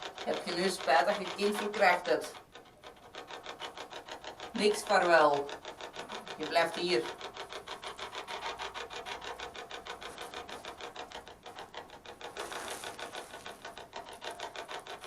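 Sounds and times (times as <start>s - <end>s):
rhythmic pulsing static: 0.0s - 15.0s.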